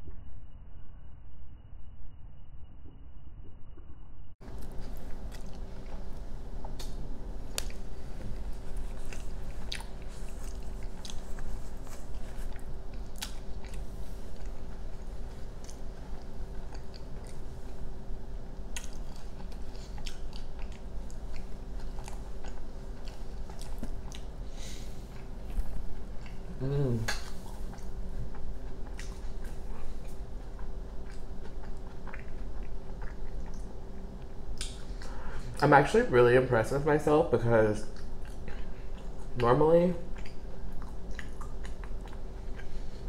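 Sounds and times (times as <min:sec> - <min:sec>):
chewing food: 0:04.4 - 0:35.9, 0:37.8 - 0:43.0.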